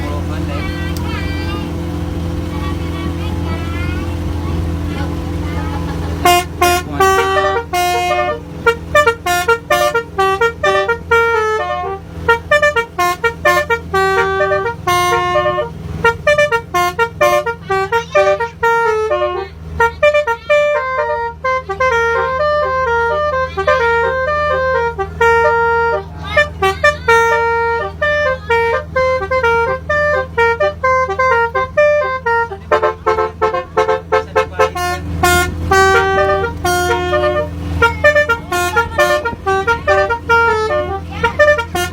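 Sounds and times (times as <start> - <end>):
melody horn playing fast tune: 5.0 - 41.9.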